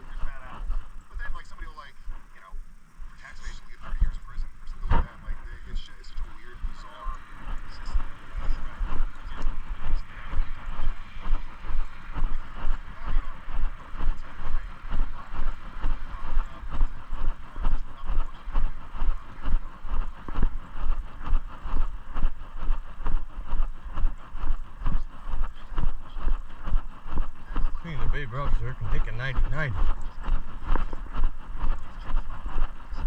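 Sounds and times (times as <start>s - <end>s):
constant hiss: 0.0s - 33.0s.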